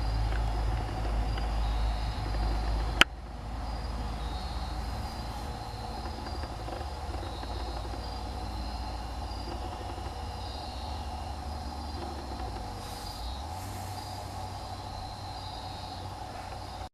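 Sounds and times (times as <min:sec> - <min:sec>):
low rumble: 0:00.0 - 0:16.9
mid-pitched drone: 0:00.0 - 0:16.9.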